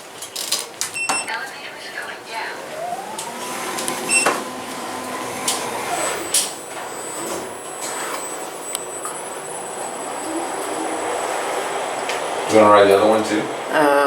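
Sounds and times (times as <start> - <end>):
elevator drive whine: 0.4 - 14.0.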